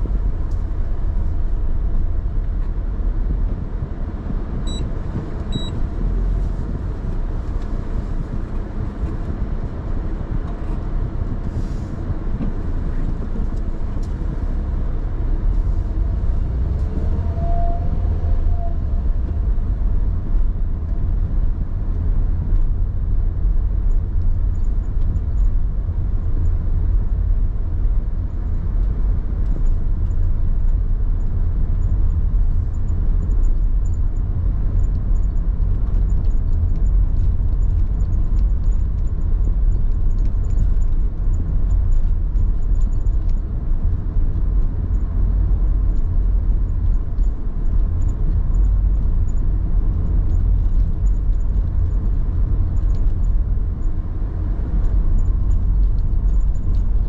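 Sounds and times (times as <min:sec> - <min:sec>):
tyres and engine rumbling: 0:00.0 - 0:57.0.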